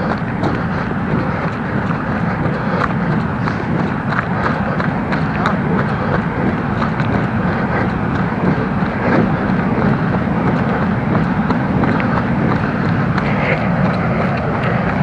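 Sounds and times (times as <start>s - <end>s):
faint footfalls: 0.0s - 15.0s
wind rumble on microphone: 0.0s - 15.0s.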